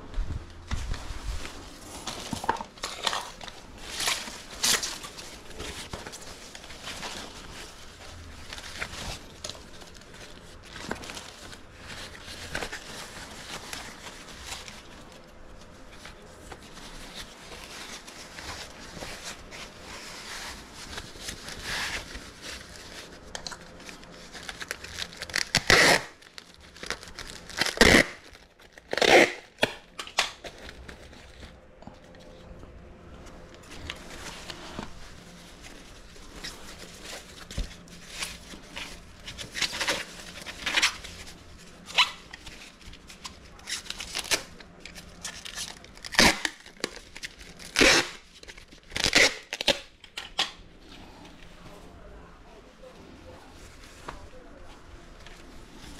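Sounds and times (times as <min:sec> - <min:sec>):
plastic wrapping crinkling: 0:00.2 - 0:55.9
tape tearing: 0:01.8 - 0:32.2, 0:33.6 - 0:50.6.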